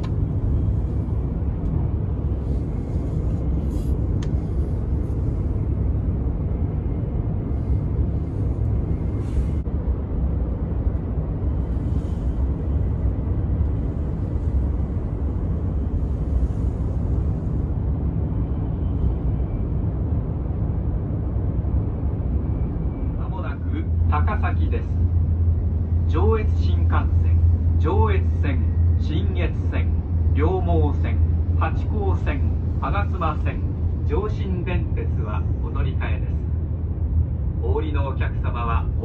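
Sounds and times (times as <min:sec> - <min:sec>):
train low rumble: 0:00.0 - 0:39.0.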